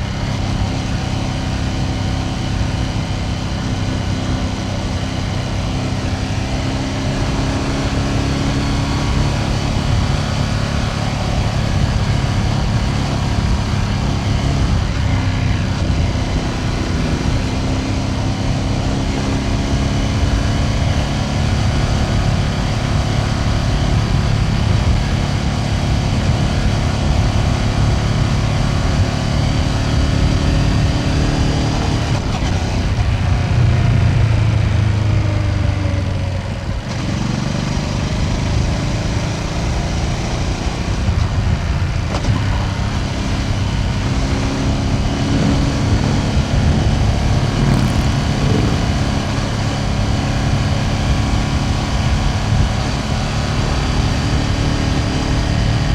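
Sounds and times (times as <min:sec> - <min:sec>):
motorcycle engine running: 0:00.0 - 0:55.9
road and wind rumble: 0:00.0 - 0:55.9.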